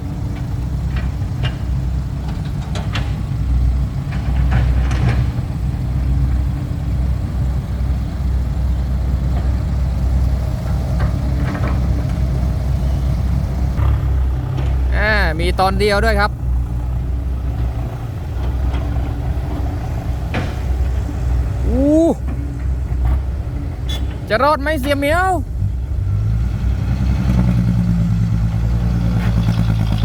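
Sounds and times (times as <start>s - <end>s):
excavator diesel engine humming: 0.0s - 30.0s.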